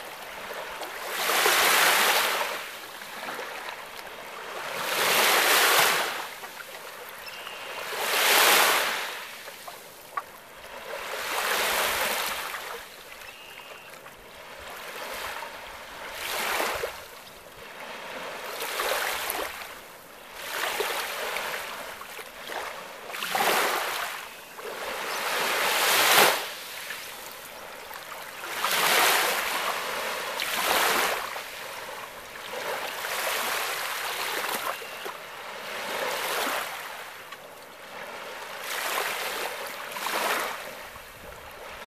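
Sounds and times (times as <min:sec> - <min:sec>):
small waves washing up sandy shore: 0:00.0 - 0:41.9.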